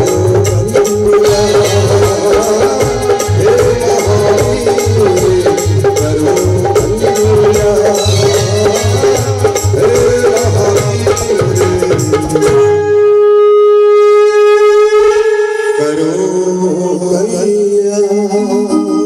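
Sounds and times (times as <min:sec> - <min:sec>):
man singing: 0:00.0 - 0:12.8, 0:14.8 - 0:19.0
keyboard melody: 0:00.0 - 0:19.0
tabla and dholak rhythm: 0:00.0 - 0:19.0.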